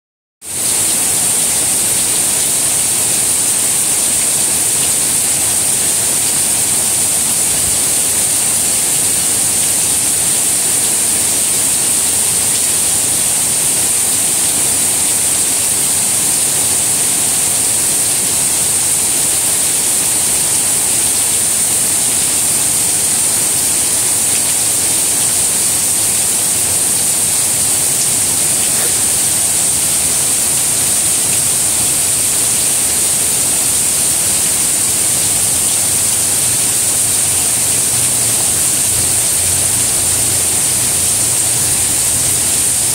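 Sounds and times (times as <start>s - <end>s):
rain falling on plants: 0.4s - 42.9s.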